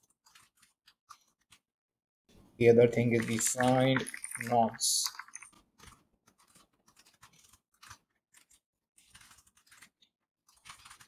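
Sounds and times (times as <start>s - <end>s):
faint keyboard typing: 0.0s - 1.6s, 3.0s - 11.0s.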